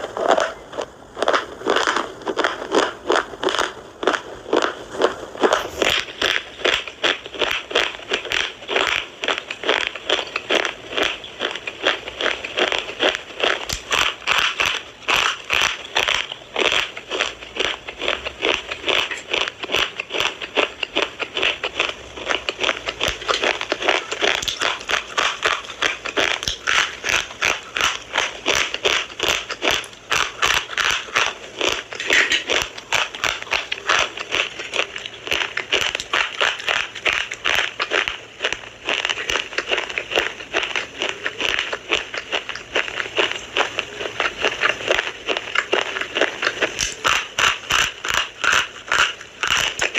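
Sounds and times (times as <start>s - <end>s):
gritty chewing crunches: 0.0s - 49.9s.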